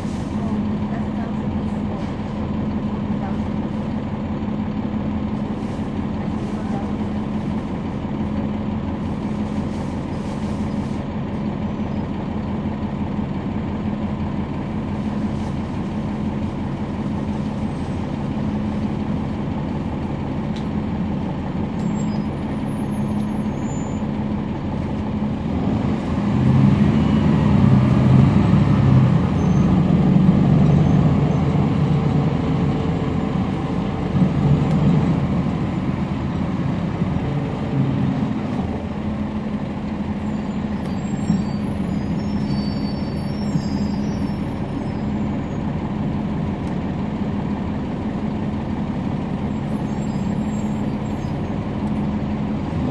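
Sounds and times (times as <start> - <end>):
bus diesel engine droning: 0.0 - 52.9.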